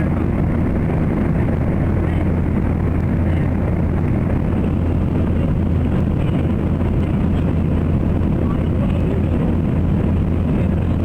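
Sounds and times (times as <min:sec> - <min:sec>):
airplane engine drone in cabin: 0:00.0 - 0:11.0.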